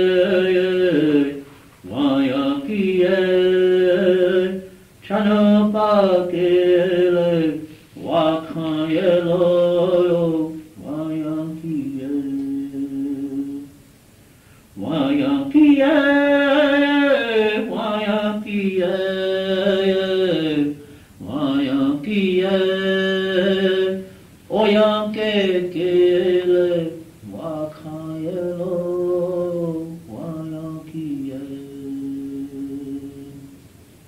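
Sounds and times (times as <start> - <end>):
man singing unaccompanied: 0.0 - 13.9, 14.7 - 33.8.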